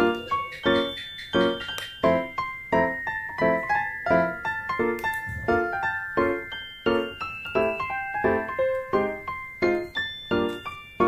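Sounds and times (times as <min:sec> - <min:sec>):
bouncy piano-like keyboard melody: 0:00.0 - 0:11.0.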